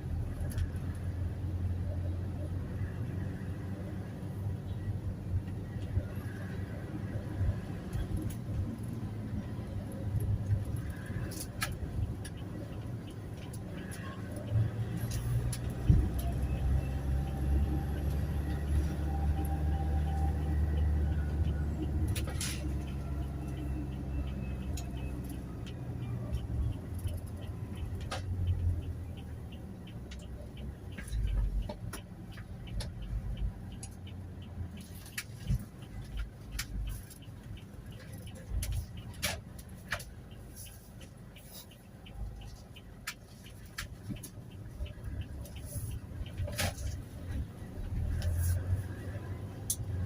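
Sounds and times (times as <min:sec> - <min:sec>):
van engine and road rumble: 0:00.0 - 0:50.0
faint regular ticking: 0:07.8 - 0:19.5, 0:20.1 - 0:50.0.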